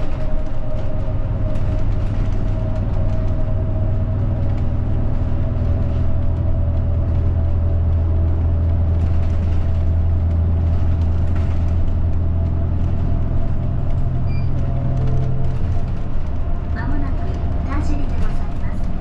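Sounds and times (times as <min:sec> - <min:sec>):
bus engine drone: 0:00.0 - 0:19.0
light rattles: 0:00.0 - 0:19.0.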